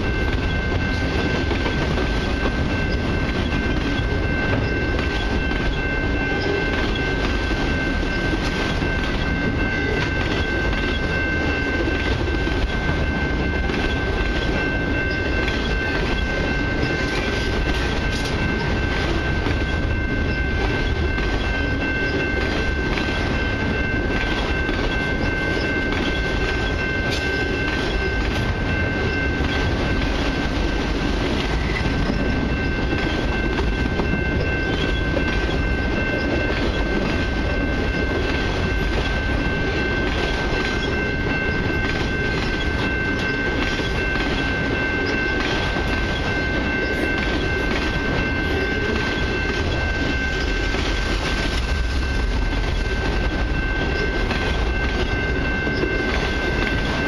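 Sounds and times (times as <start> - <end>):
steady high-pitched tone: 0.0 - 57.0
steel wheels rumbling on rails: 0.0 - 57.0.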